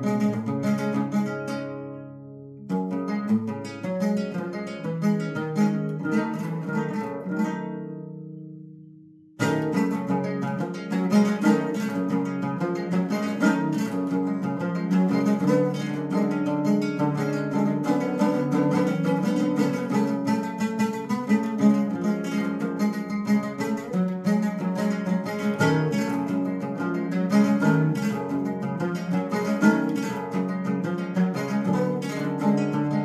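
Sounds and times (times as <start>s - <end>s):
strummed string instrument: 0.0s - 33.0s.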